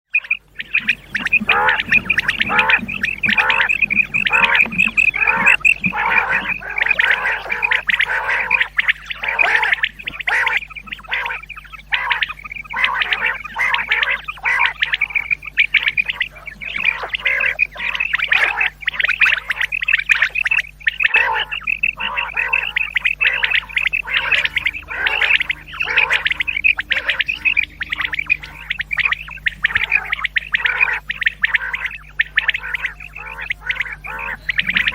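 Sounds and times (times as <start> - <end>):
low steady hum: 0.1 - 34.9
quail calling: 0.1 - 34.9.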